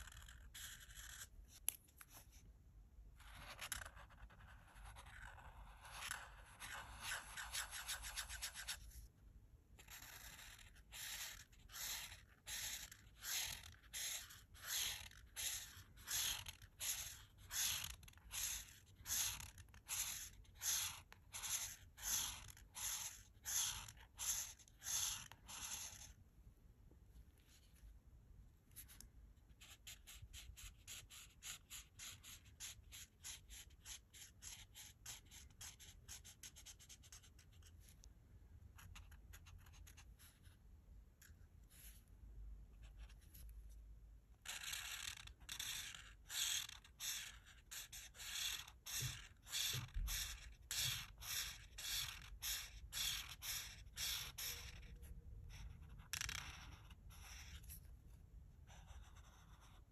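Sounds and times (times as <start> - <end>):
marker scratching on paper: 0.0 - 2.5, 3.1 - 9.1, 9.8 - 26.2, 28.7 - 38.1, 38.7 - 40.6, 41.2 - 42.1, 42.7 - 43.5, 44.4 - 58.0, 58.6 - 59.9.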